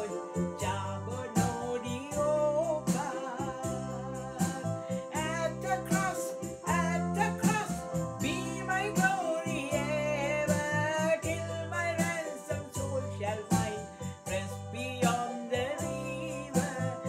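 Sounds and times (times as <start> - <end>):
electronic keyboard chords and bass: 0.0 - 17.0
woman singing a hymn: 0.0 - 17.0.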